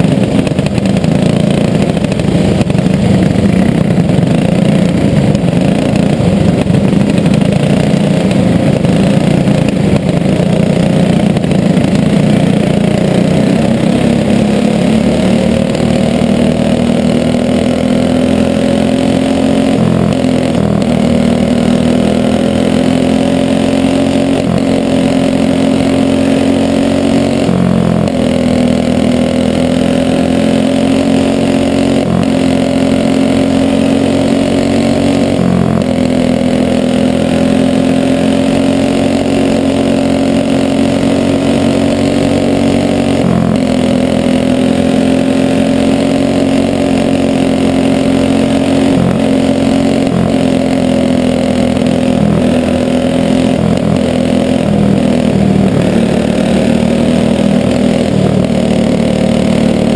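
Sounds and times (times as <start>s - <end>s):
go-kart engine running hard: 0.0s - 59.9s
other karts' engines: 0.0s - 59.9s.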